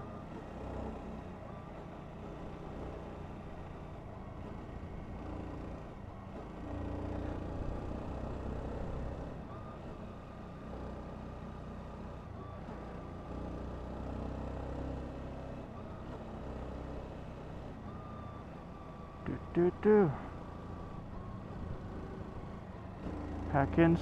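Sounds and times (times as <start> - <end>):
road and wind noise: 0.0 - 24.0.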